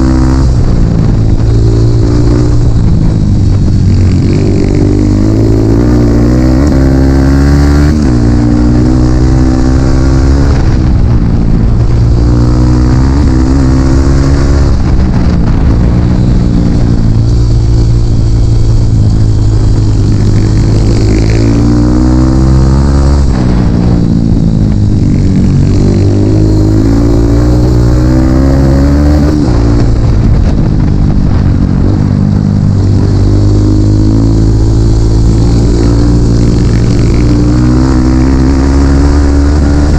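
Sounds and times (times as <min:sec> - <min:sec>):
dirt bike engine revving: 0:00.0 - 0:30.5, 0:31.8 - 0:39.9.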